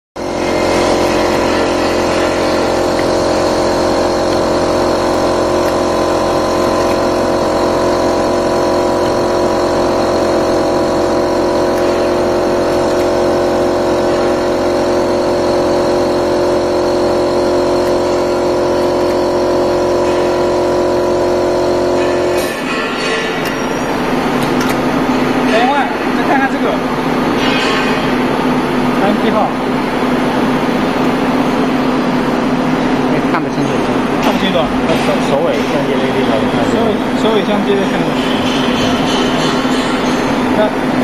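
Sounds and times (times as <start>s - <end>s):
labeling machine motor hum: 0.2s - 41.0s.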